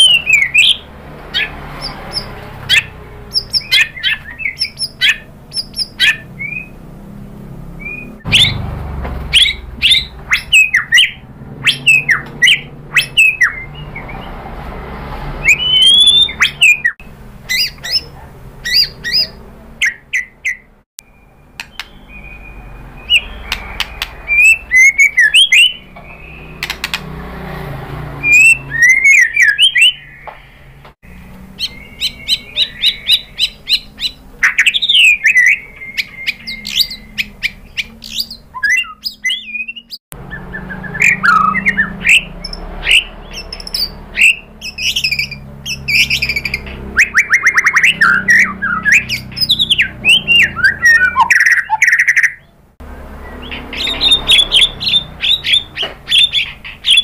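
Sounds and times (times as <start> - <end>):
bird singing whistles and trills: 0.0 - 6.8, 7.7 - 8.6, 9.2 - 14.4, 15.4 - 27.0, 28.2 - 57.0.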